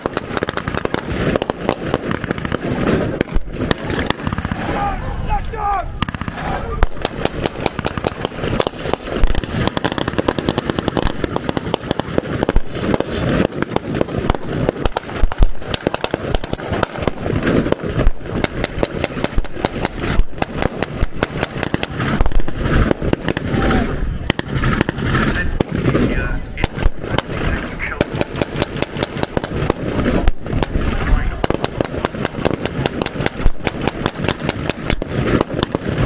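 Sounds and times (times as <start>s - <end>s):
rapid blank gunfire: 0.0s - 4.8s, 6.0s - 36.0s
loud bangs: 0.0s - 36.0s.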